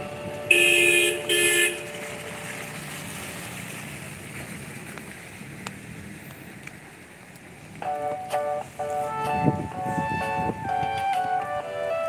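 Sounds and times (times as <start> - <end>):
rain on wet pavement: 0.0 - 12.0.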